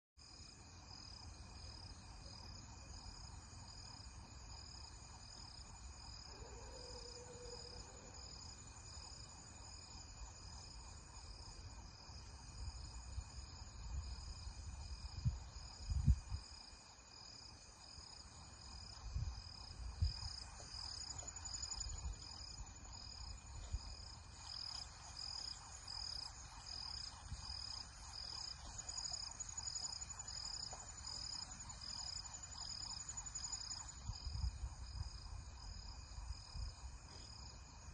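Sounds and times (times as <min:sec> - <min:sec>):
high insect drone: 0:00.2 - 0:37.9
insects chirping: 0:00.2 - 0:37.9.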